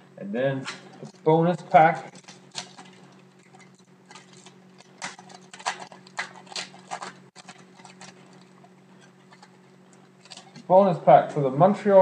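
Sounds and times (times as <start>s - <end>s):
foil wrapper crinkling and tearing: 0.6s - 10.7s.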